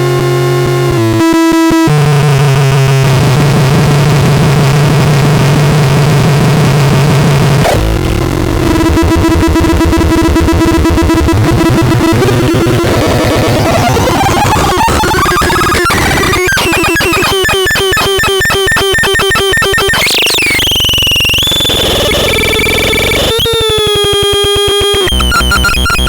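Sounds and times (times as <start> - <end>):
buzzy synthesizer drones: 1.8 - 26.0.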